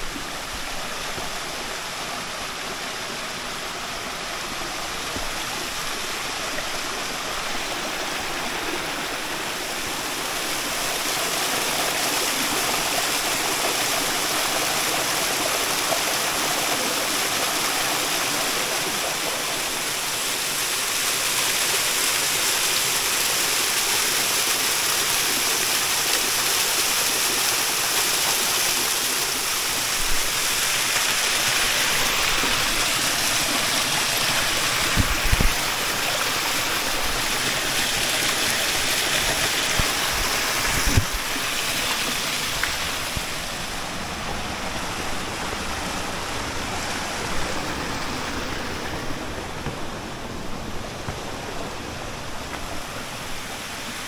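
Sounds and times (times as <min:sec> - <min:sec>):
waterfall splashing over rocks: 0:00.0 - 0:54.0.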